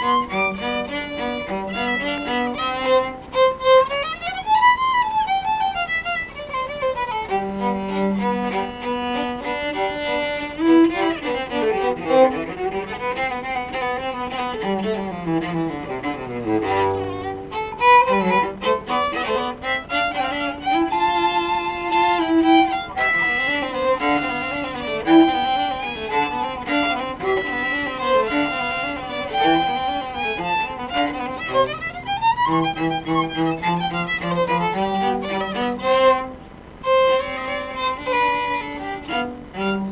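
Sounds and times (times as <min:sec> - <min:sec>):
cello playing: 0:00.0 - 0:39.9
violin playing: 0:00.0 - 0:39.9.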